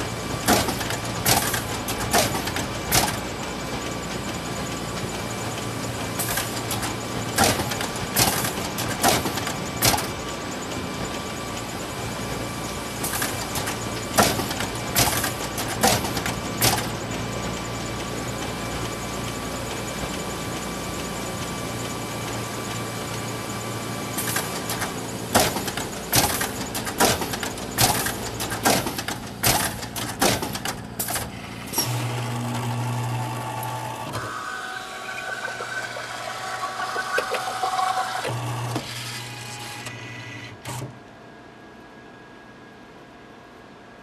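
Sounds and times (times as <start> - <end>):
photocopier humming: 0.0 - 41.0
motor hum and whirring: 0.0 - 42.7.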